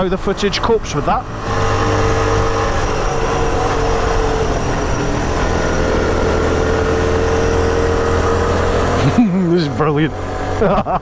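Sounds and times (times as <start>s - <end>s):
motorcycle engine running: 0.0s - 10.8s
road noise: 0.0s - 11.0s.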